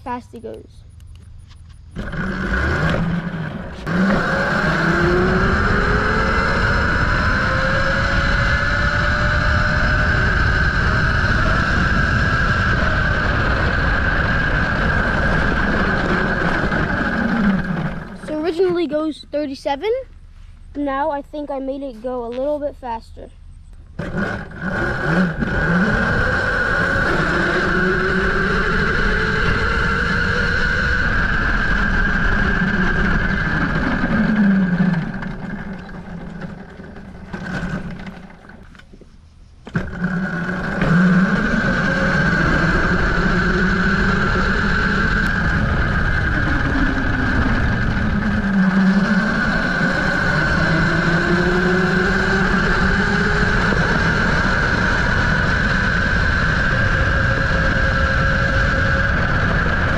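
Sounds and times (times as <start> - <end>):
steady high whine: 0.0 - 59.9
electric dirt bike motor whine: 0.9 - 18.8, 23.6 - 59.9.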